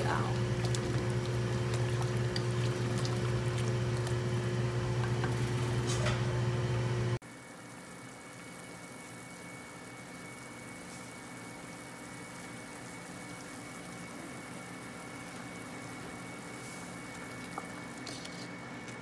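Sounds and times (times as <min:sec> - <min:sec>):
soup simmering in a pot: 0:00.0 - 0:05.9, 0:06.5 - 0:19.0.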